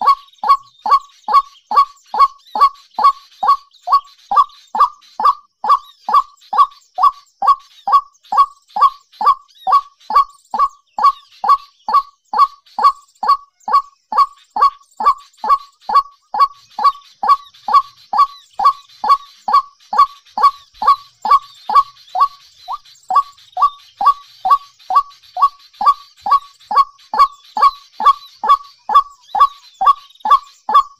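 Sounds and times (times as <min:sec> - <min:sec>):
bird honking call: 0:00.0 - 0:30.9
faint higher twittering: 0:00.0 - 0:30.9.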